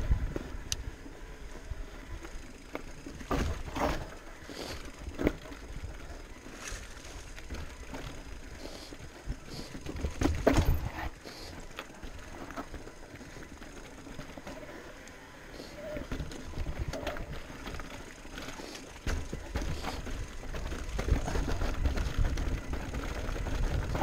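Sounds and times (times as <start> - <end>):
bike knocking and rattling over rocks: 0.0 - 15.0, 15.8 - 24.0
bike tyres rumbling on trail: 0.0 - 24.0.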